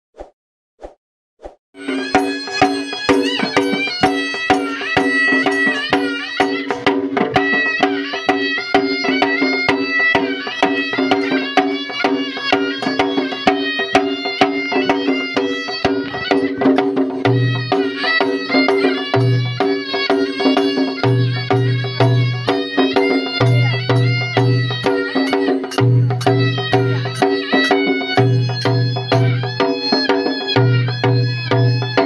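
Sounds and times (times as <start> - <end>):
drum strokes: 1.8 - 32.0
reed pipe melody: 1.8 - 32.0.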